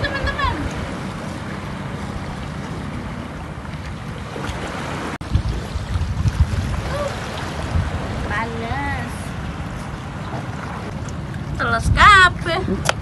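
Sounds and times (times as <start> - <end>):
waves washing against rocks: 0.0 - 10.9
wind buffeting microphone: 0.0 - 13.0.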